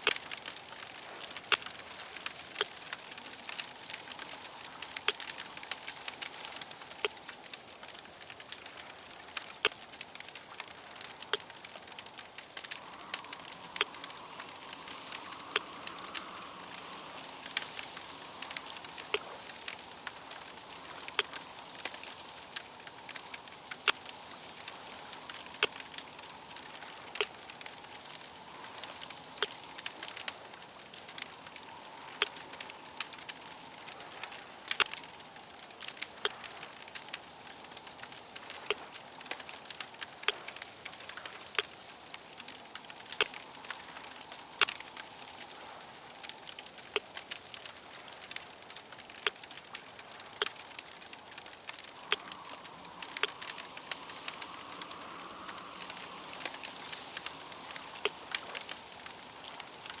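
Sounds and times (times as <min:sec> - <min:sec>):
wood fire crackling: 0:00.0 - 1:00.0.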